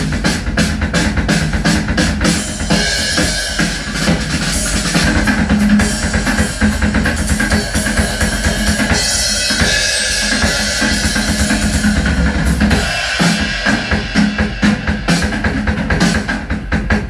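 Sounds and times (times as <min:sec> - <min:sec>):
drum-heavy music with deep bass: 0:00.0 - 0:17.0.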